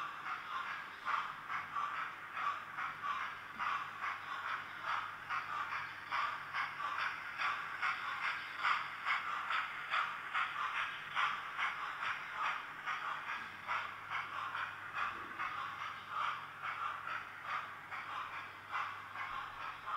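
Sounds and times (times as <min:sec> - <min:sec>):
thin steam locomotive chuffs: 0:00.0 - 0:19.9.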